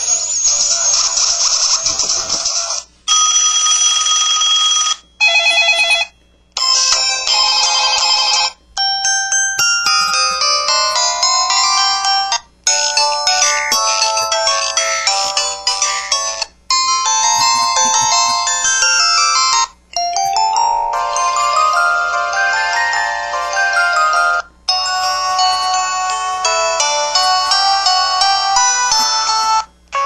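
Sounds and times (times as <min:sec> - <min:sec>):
phone ringtones and sound effects: 0:03.1 - 0:30.0.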